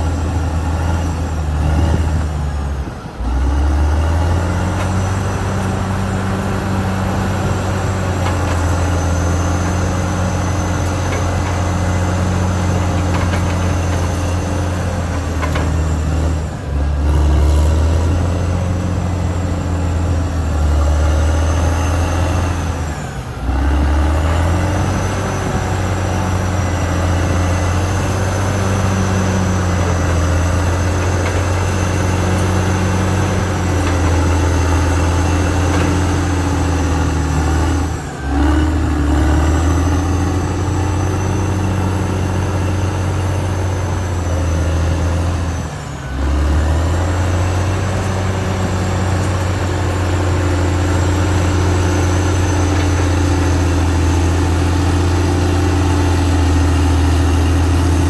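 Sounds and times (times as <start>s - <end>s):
bulldozer diesel engine droning: 0.0s - 58.0s
high engine whine: 0.0s - 58.0s.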